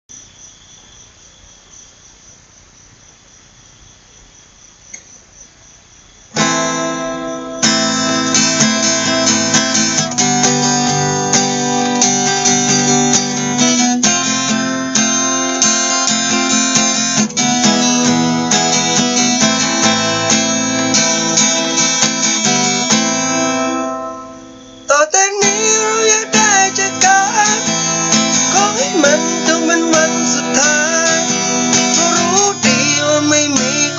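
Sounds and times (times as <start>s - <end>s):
crickets chirping: 0.1s - 33.9s
acoustic guitar strumming: 6.4s - 33.9s.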